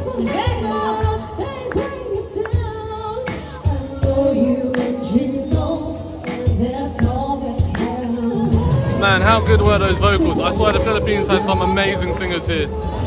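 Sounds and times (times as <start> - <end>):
live band playing: 0.0 - 13.0
women singing: 0.0 - 13.0.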